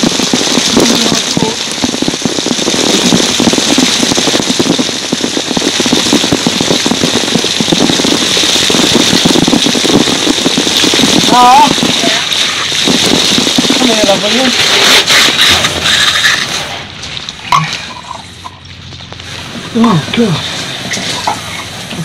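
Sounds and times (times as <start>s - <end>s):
water jetting from a pipe: 0.0s - 22.0s.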